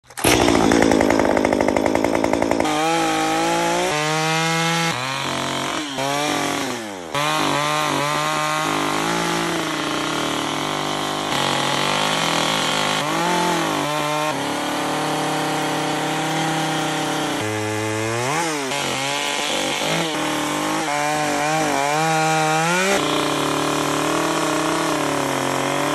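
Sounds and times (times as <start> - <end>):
chainsaw cutting wood: 0.0 - 25.9.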